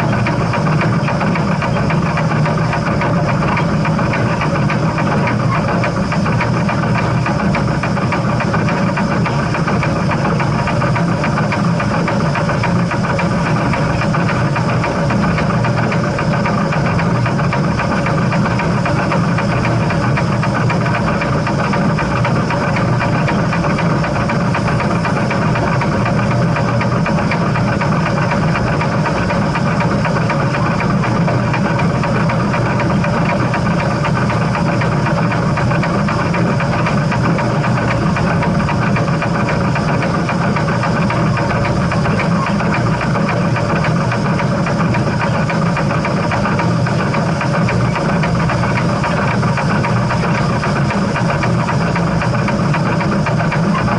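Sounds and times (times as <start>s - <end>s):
steady mechanical tones: 0.0s - 53.9s
steam train rumbling: 0.0s - 53.9s.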